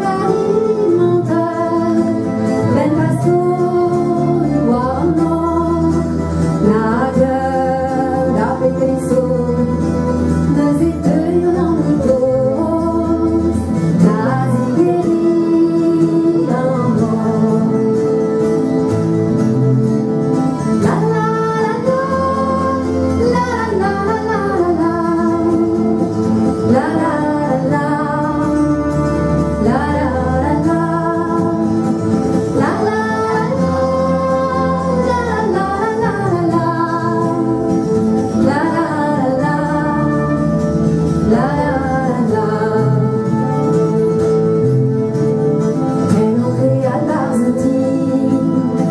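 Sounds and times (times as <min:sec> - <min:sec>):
guitars: 0:00.0 - 0:48.9
woman singing: 0:00.0 - 0:48.9.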